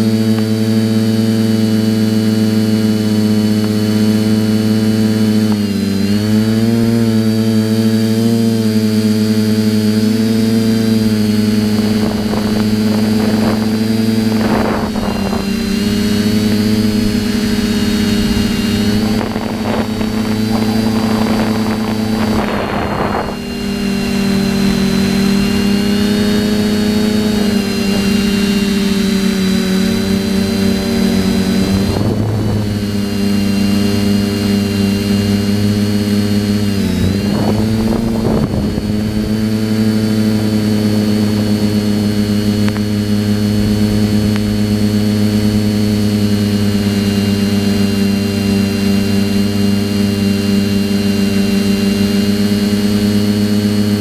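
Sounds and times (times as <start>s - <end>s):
drone motors and propellers buzzing: 0.0s - 54.0s
rushes of noise: 9.2s - 54.0s.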